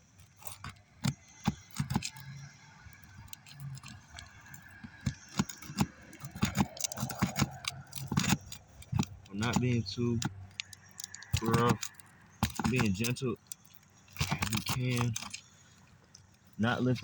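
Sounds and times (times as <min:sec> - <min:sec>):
metal bar clicking and scraping shingles: 0:00.0 - 0:17.0.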